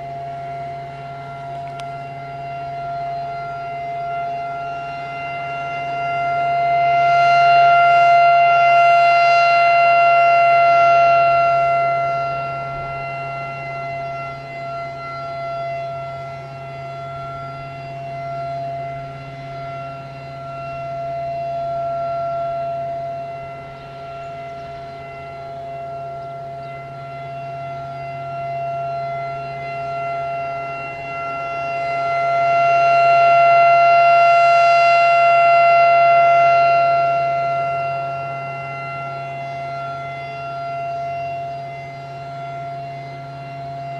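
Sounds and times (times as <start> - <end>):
rotating warning siren: 0.0 - 43.9.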